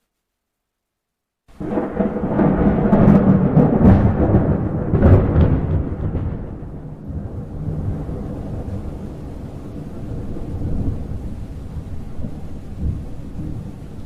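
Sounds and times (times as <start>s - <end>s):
thunder rumbling and cracking: 1.5s - 14.0s.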